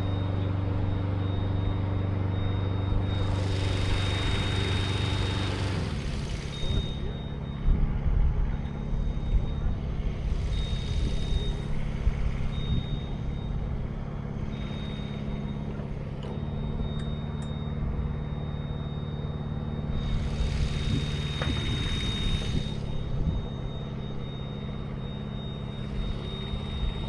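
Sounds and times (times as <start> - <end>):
engine running: 0.0 - 27.0
high-pitched beep: 0.0 - 27.0.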